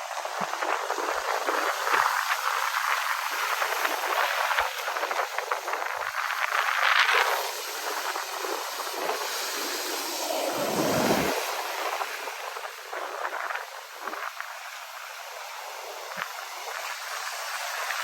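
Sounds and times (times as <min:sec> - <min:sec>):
ocean surf washing in: 0:00.0 - 0:18.0.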